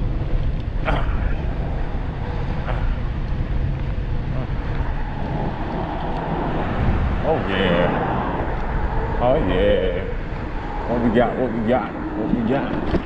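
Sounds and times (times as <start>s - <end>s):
faint steady whine: 0.0s - 13.0s
wind buffeting microphone: 0.0s - 13.0s.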